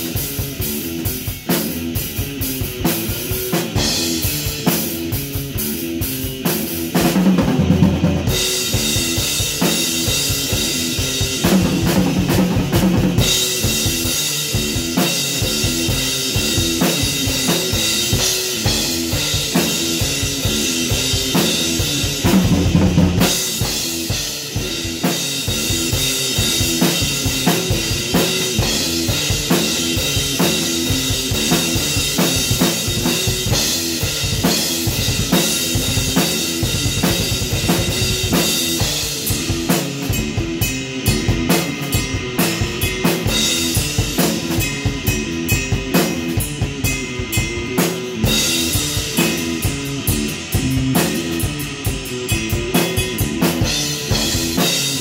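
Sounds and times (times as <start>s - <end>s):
drum kit beat: 0.0s - 55.0s
electric guitar rock riff: 0.0s - 55.0s.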